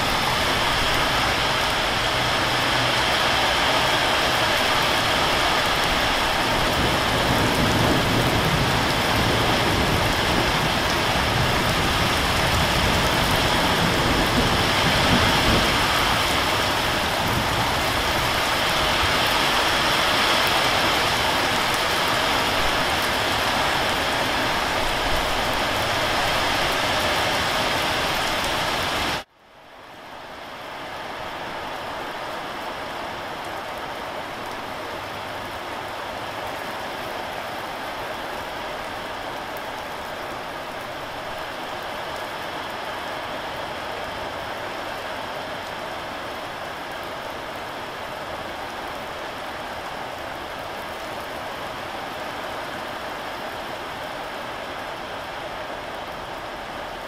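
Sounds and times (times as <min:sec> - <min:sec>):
rain on a corrugated roof: 0:00.0 - 0:57.0.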